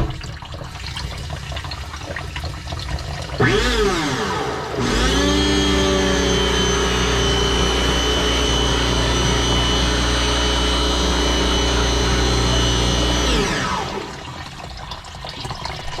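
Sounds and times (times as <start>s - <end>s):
pump motor running: 0.0s - 16.0s.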